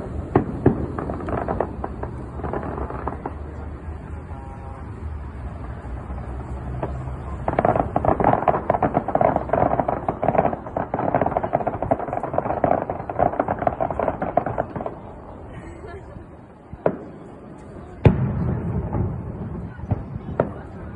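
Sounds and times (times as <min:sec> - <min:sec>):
fireworks crackling: 0:00.0 - 0:20.9.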